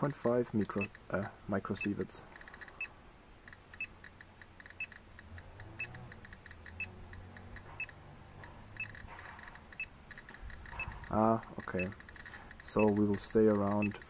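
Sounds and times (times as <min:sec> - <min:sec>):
geiger counter clicking: 0:00.6 - 0:01.1, 0:01.8 - 0:14.0.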